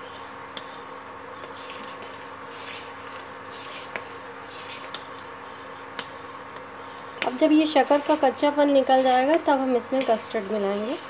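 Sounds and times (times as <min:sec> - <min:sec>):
cooktop hum: 0:00.0 - 0:11.0
spoon stirring in metal pot: 0:00.1 - 0:11.0.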